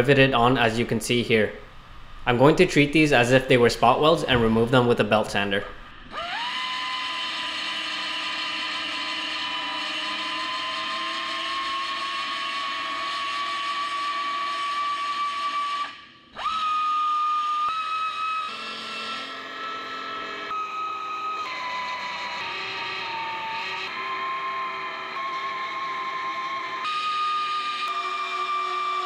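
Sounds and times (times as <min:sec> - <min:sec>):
belt sander whining: 0:05.7 - 0:29.0.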